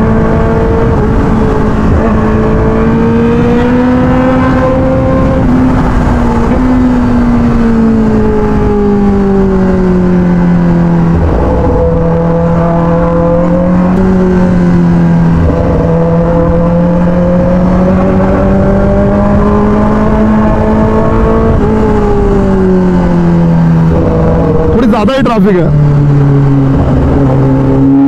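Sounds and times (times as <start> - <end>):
low wind rumble: 0.0 - 28.0
motorcycle engine: 0.0 - 28.0.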